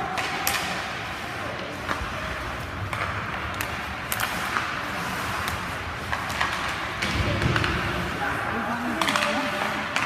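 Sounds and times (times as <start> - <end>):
hockey sticks clacking on puck: 0.0 - 10.0.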